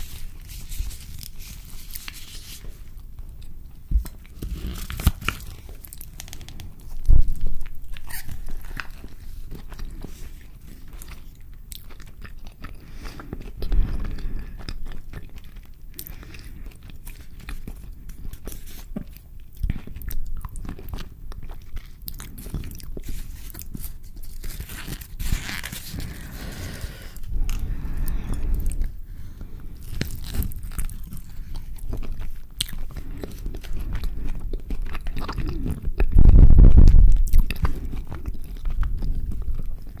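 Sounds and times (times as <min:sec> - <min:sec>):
biting and chewing food: 0:00.0 - 0:40.0.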